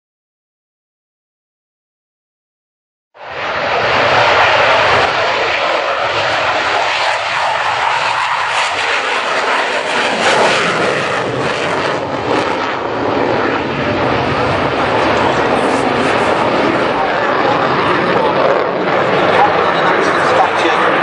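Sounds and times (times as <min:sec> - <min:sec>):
jet engine roaring: 0:03.2 - 0:21.0.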